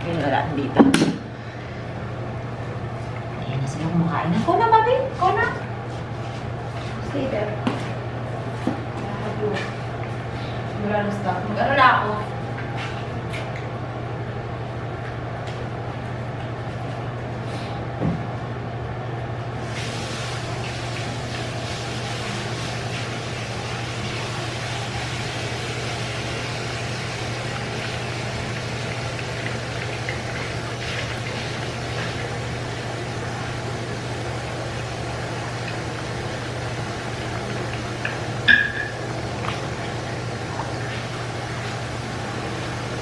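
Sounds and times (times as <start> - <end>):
machine hum: 0.0 - 43.0.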